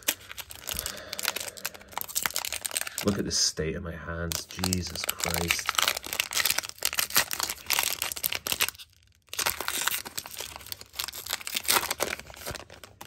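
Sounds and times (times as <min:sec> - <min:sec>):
foil wrapper tearing and crinkling: 0:00.0 - 0:03.3, 0:04.2 - 0:13.0.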